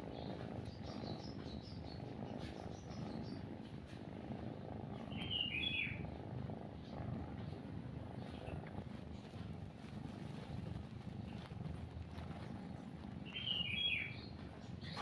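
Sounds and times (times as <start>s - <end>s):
cat purring: 0.0s - 15.0s
small birds chirping: 0.0s - 15.0s.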